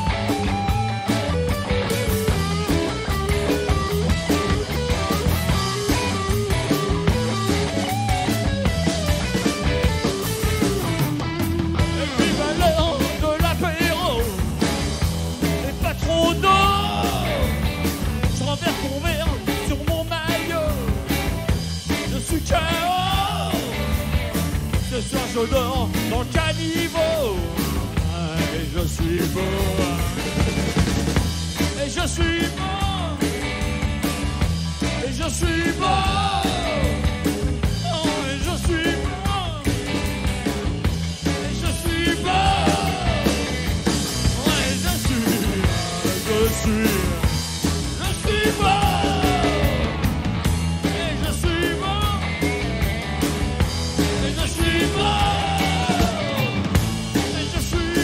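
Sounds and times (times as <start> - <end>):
bass guitar: 0.0 - 58.0
drums: 0.0 - 58.0
electric guitars: 0.0 - 58.0
live rock band playing: 0.0 - 58.0.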